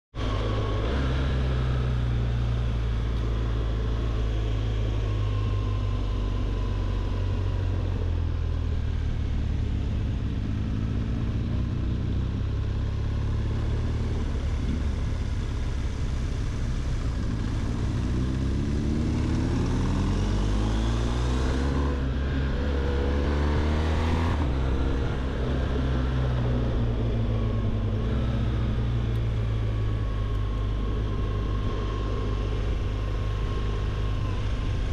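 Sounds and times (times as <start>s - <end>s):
wind and road noise: 0.1s - 34.9s
motorcycle engine accelerating: 0.2s - 34.9s.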